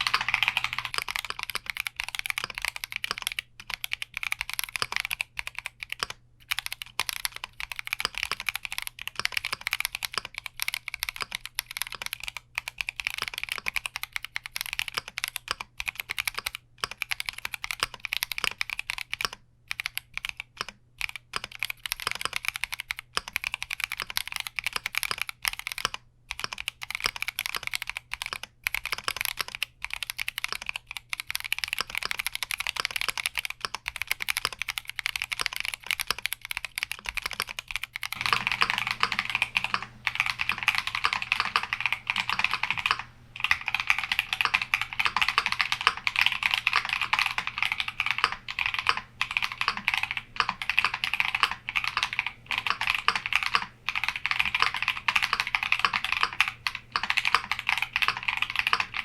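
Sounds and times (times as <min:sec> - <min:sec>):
mechanical keyboard typing: 0:00.0 - 0:59.0.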